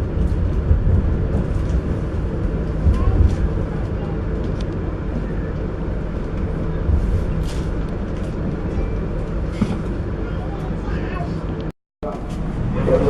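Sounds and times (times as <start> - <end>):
passenger train rumble: 0.0 - 13.0.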